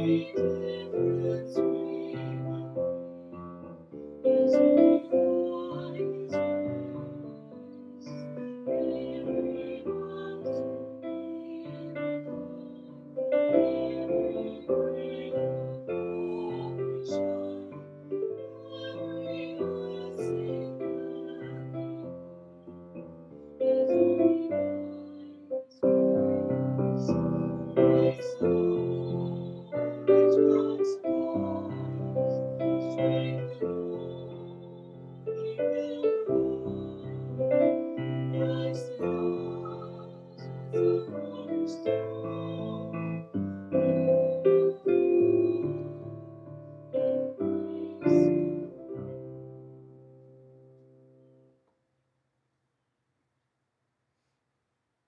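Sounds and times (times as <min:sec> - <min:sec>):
piano playing hymn chords: 0:00.0 - 0:50.8.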